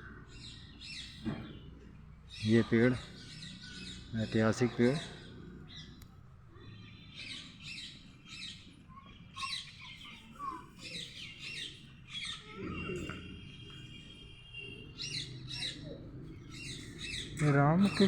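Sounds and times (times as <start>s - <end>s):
birds chirping and squawking: 0.0s - 18.0s.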